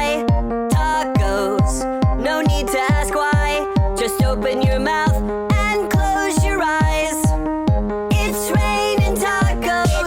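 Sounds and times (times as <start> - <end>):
electronic pop song: 0.0 - 10.0.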